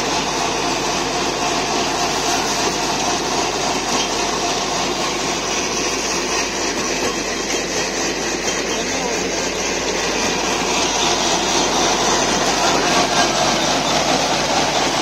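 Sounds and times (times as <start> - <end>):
rotavator tilling soil: 0.0 - 15.0
tractor engine under load: 0.0 - 15.0.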